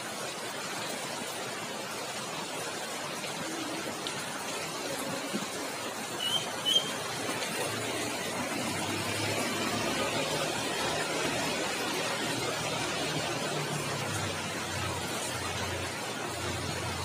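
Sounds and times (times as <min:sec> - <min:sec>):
rain falling on wet road: 0:00.0 - 0:17.0.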